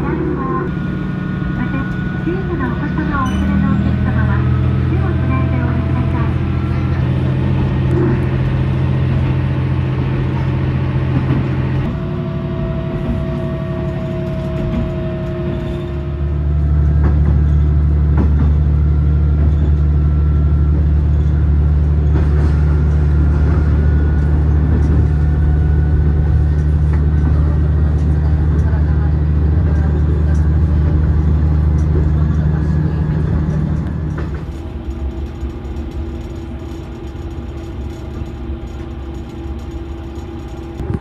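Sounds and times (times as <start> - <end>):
railcar engine drone: 0.0 - 41.0.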